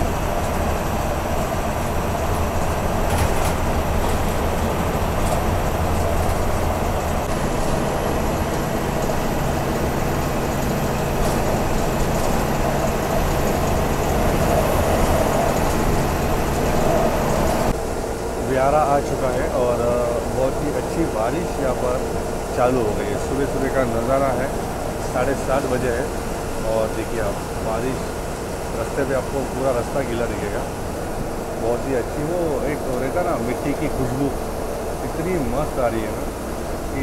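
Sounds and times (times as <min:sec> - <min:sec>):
bus engine drone: 0:00.0 - 0:37.0
road and rattle noise: 0:00.0 - 0:37.0.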